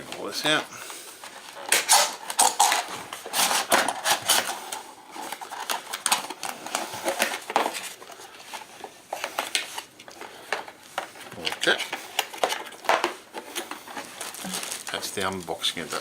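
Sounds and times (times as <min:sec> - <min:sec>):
packaging clicks and rustles: 0:00.0 - 0:16.0.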